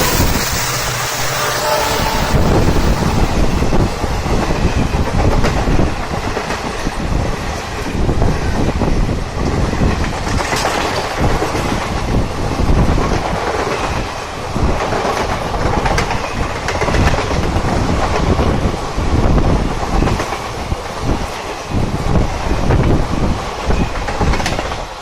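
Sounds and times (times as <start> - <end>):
train wheels clattering over rail joints: 0.0 - 25.0.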